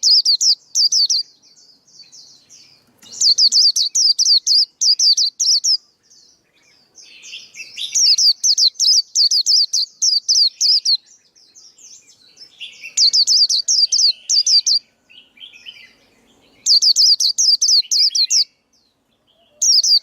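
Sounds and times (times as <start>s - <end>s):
bird singing high slurred notes: 0.0s - 20.0s.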